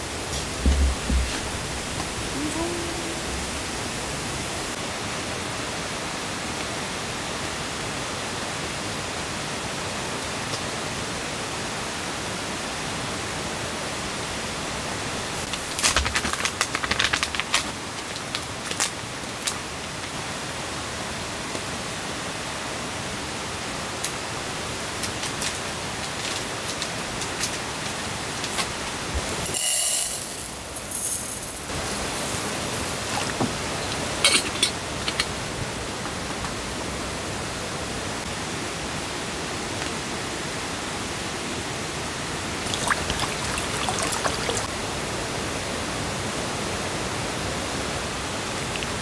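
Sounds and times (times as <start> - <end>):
rain on a tent: 0.0 - 49.0.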